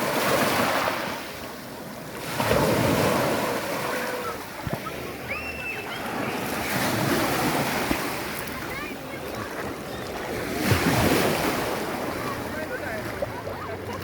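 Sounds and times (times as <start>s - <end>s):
sea waves washing ashore: 0.0s - 14.0s.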